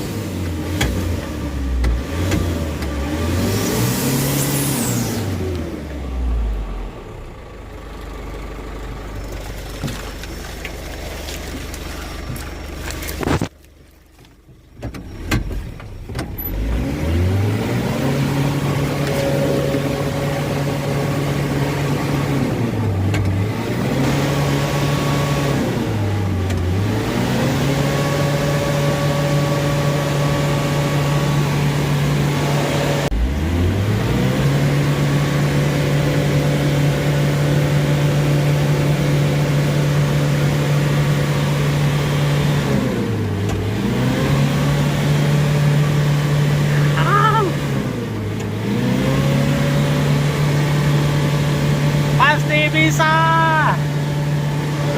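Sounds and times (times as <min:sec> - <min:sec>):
diesel engine revving: 0:00.0 - 0:13.5, 0:15.0 - 0:54.9.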